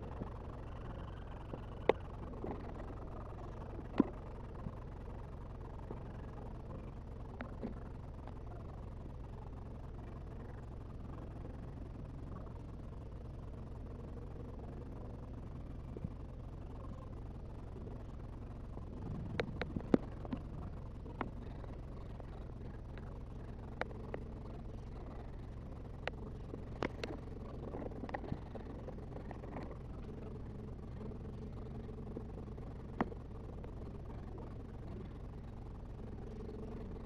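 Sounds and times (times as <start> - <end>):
aquarium equipment humming: 0.0 - 37.0.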